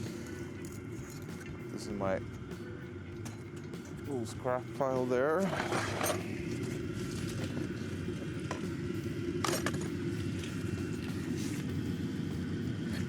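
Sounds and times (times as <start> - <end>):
heater humming: 0.0 - 13.0.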